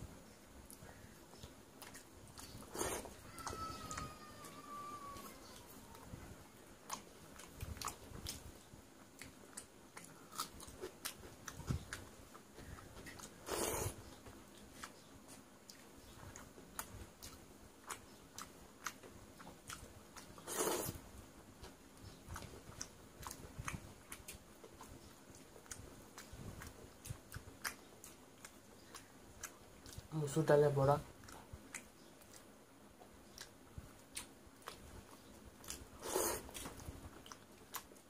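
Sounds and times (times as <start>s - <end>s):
wet chewing and mouth smacks: 0.6s - 4.2s, 5.2s - 21.0s, 21.6s - 30.2s, 31.2s - 38.0s.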